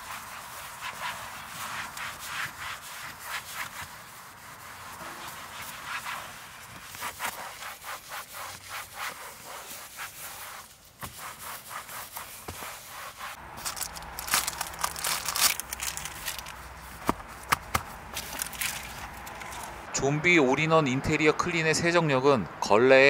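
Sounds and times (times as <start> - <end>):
towel rubbing leather seat: 0.0 - 19.8.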